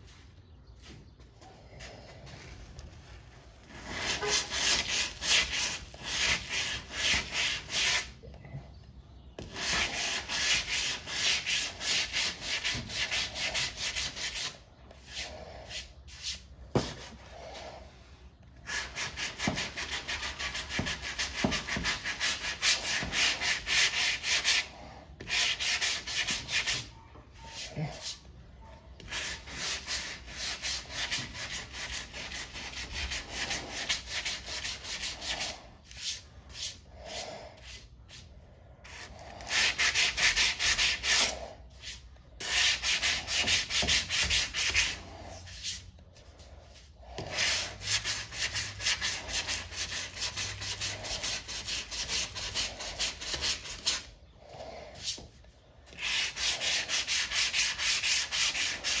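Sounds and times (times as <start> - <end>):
sandpaper rasping on filler: 3.7 - 8.2, 9.4 - 17.2, 18.6 - 28.2, 29.0 - 54.1, 55.9 - 59.0.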